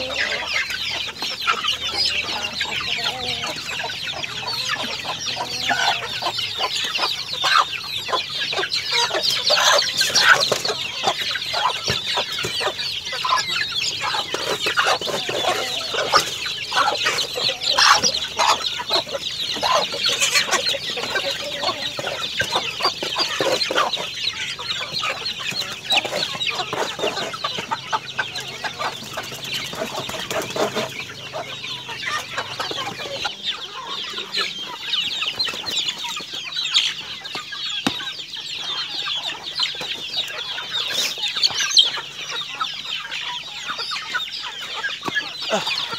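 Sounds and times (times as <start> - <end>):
chickens clucking and calling: 0.0 - 45.9.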